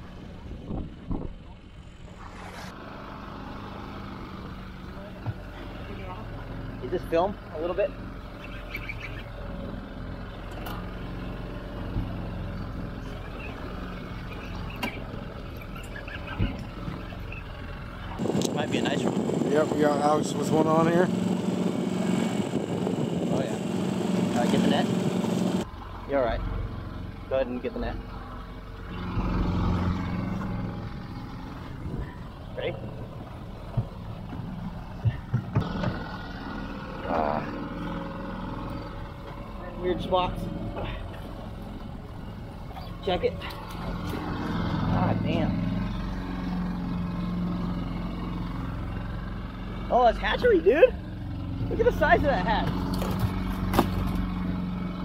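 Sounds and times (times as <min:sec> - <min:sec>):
outboard motor running: 0:04.4 - 0:25.9, 0:26.6 - 0:55.0.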